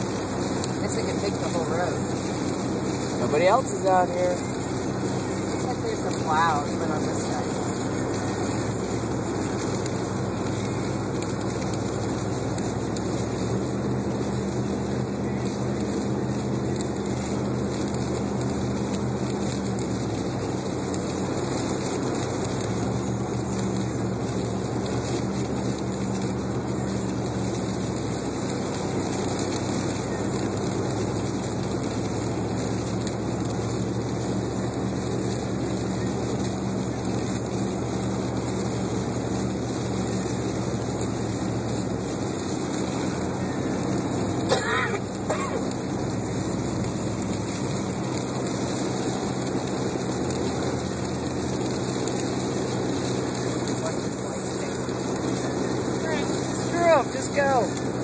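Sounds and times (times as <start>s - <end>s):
car engine hum: 0.0s - 58.0s
road noise: 0.0s - 58.0s.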